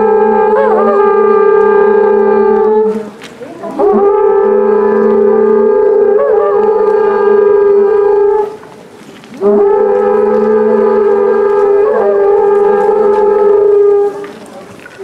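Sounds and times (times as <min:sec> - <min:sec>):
conch shell trumpets blown: 0:00.0 - 0:03.1, 0:03.8 - 0:08.6, 0:09.4 - 0:14.2.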